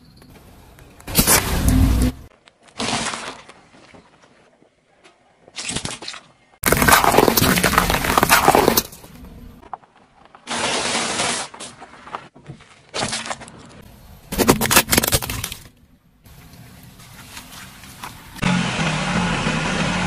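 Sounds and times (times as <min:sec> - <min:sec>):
objects crunching under car tyre: 0:01.1 - 0:04.6, 0:05.5 - 0:18.5.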